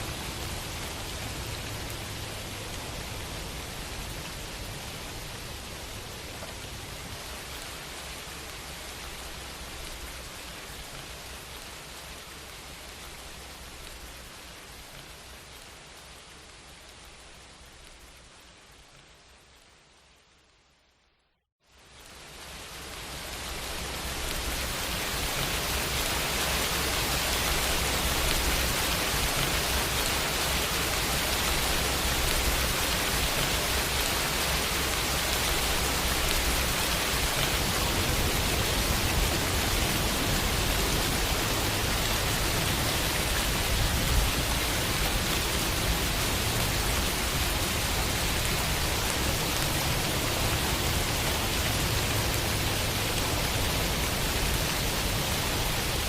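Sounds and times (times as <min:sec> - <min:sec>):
rain on a window: 0:00.0 - 0:21.0, 0:21.6 - 0:56.0.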